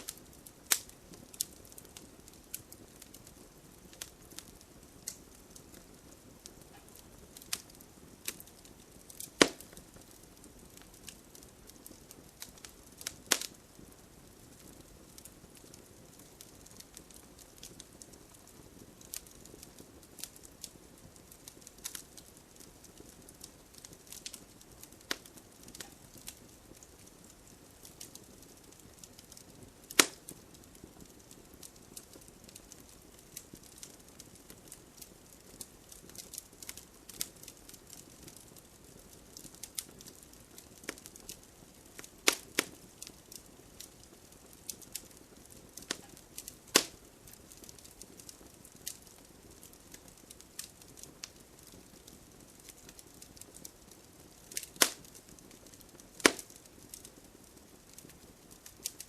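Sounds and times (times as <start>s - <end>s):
campfire crackling and popping: 0.0s - 59.0s
faint steady hiss: 0.0s - 59.0s.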